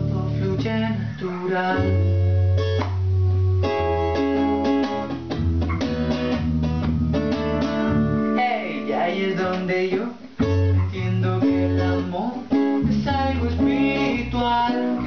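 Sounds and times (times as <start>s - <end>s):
acoustic guitar: 0.0s - 15.0s
electric guitar: 0.0s - 15.0s.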